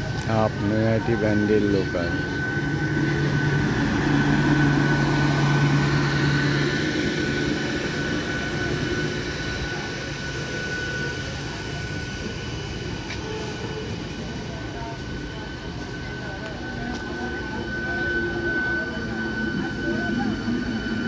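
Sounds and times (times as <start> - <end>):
high whine: 0.0 - 21.0
low hum: 0.0 - 21.0
train wheels rumbling on rails: 0.0 - 21.0.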